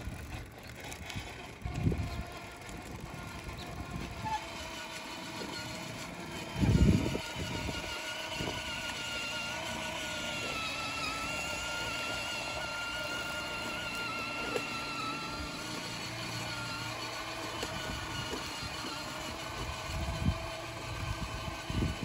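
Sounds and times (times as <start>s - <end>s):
toy go-kart electric motor whining: 0.0s - 22.0s.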